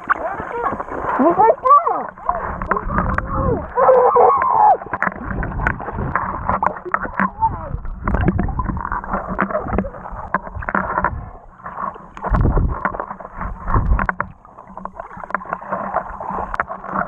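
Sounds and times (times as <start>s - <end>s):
heavy low water surges: 0.0s - 17.0s
underwater sloshing and gurgling: 0.0s - 17.0s.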